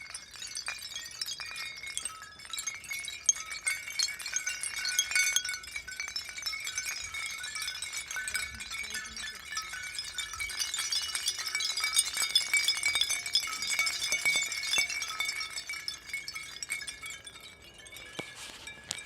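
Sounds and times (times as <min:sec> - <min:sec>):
glassy tinkling and clinks: 0:00.0 - 0:19.0.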